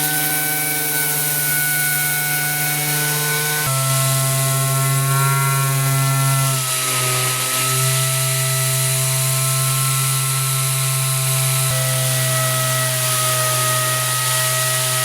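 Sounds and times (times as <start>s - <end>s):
orbital sander running: 0.0s - 15.0s.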